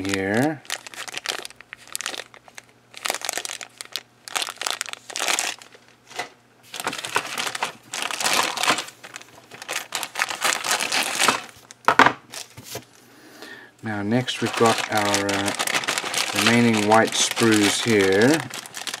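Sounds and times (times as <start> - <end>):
plastic bags crinkling: 0.0 - 12.8, 14.1 - 19.0.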